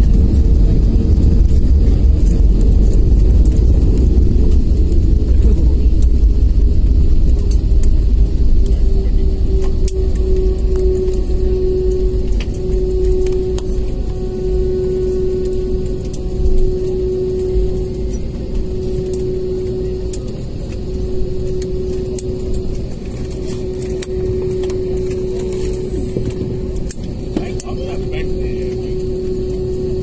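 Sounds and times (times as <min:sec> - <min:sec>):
constant cabin hum: 0:00.0 - 0:30.0
jet cabin low rumble: 0:00.0 - 0:30.0.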